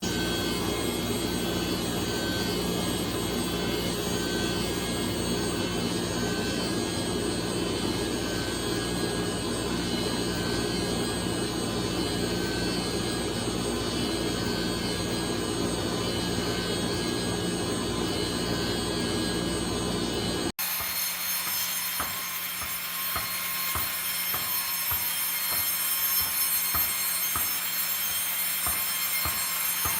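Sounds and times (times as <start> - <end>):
sawmill machinery running: 0.0 - 29.9.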